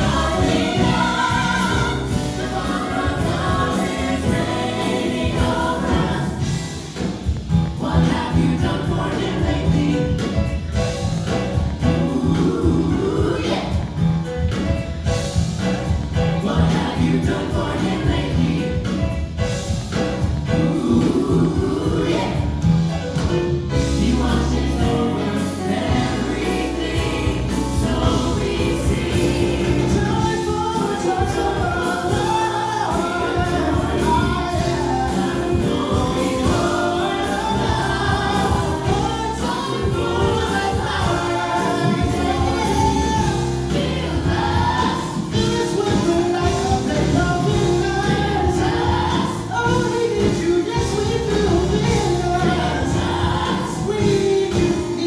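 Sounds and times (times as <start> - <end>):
low bass notes: 0.0 - 54.4
group of voices singing: 0.0 - 55.0
instrumental accompaniment: 0.0 - 55.0.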